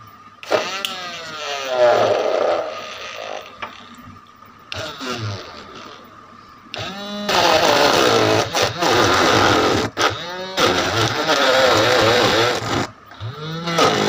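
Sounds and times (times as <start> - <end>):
small electric motor whining: 0.4 - 3.9, 4.7 - 6.1, 6.8 - 14.0.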